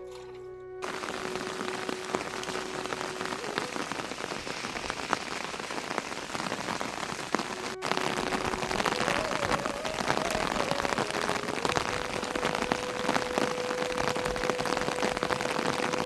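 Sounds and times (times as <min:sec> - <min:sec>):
raindrops ticking: 0:00.8 - 0:16.0
steady rain falling: 0:00.8 - 0:16.0.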